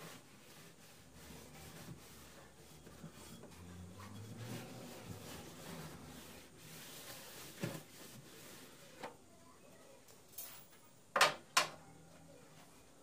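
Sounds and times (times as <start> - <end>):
faint rubbing and handling: 0.0 - 11.0.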